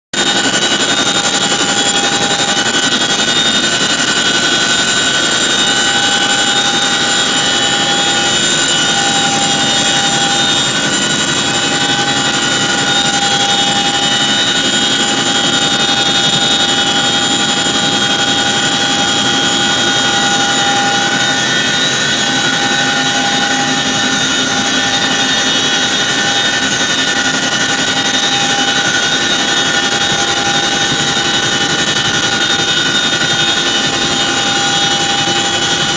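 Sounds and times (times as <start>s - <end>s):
helicopter engines roaring: 0.2s - 35.9s
high whining tones: 0.2s - 35.9s.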